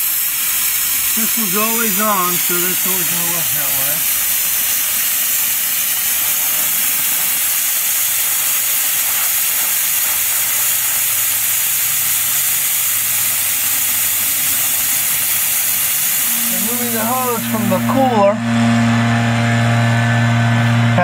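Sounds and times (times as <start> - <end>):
compressed air hissing: 0.0 - 18.4.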